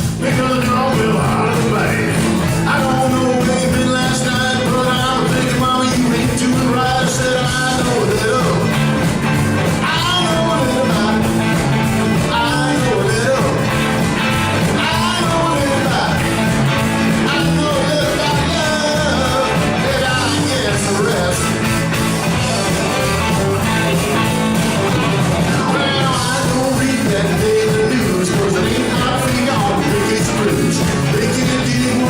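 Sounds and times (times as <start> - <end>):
live rock band playing: 0.0 - 32.0
person singing: 0.0 - 32.0.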